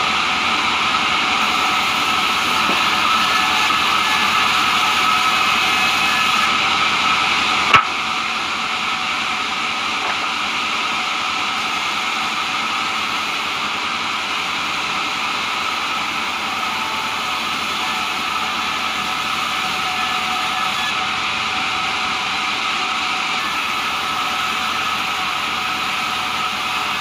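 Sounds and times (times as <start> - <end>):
band saw running: 0.0 - 27.0.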